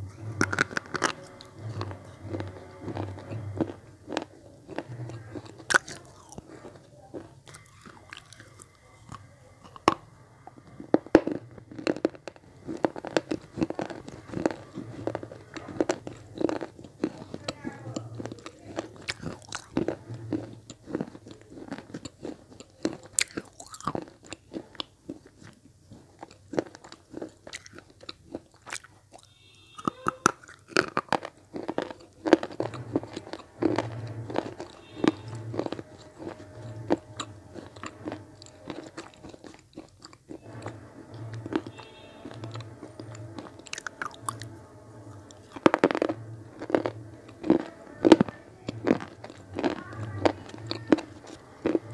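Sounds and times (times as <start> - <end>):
chewing sharp dry crunches: 0.0 - 44.6, 45.2 - 51.9.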